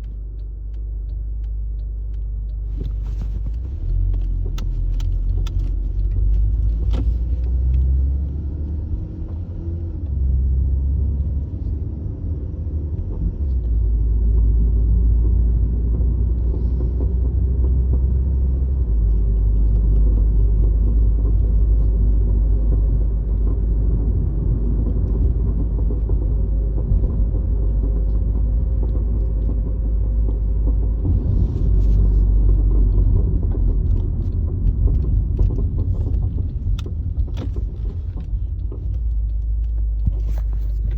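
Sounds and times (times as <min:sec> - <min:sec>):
car driving low rumble: 0:00.0 - 0:40.9.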